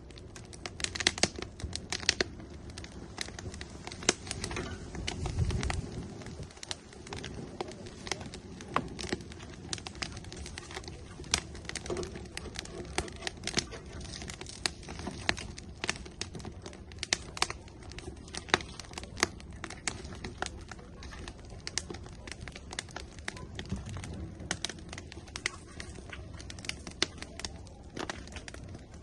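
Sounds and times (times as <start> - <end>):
burning wood crackling and popping: 0.0 - 29.0
flame rushing: 0.0 - 29.0.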